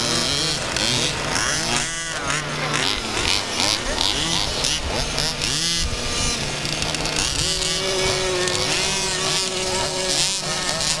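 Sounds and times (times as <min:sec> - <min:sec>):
engine holding steady note: 0:00.0 - 0:11.0
small two-stroke engines revving: 0:00.0 - 0:11.0.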